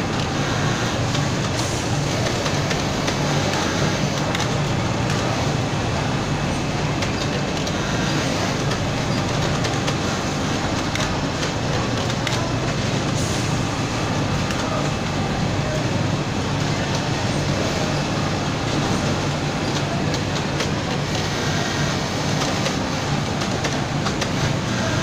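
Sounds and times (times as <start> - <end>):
industrial sewing machines running: 0.0 - 25.0.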